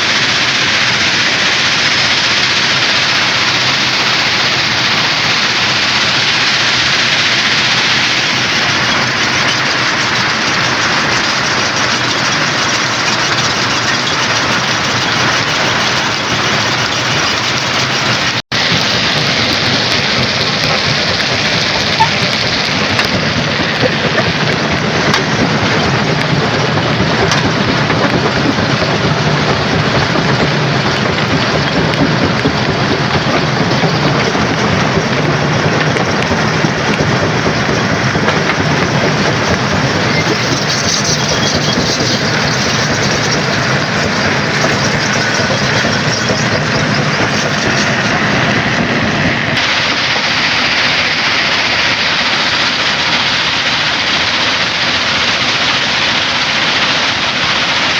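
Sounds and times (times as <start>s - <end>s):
rock crusher running: 0.0s - 57.9s.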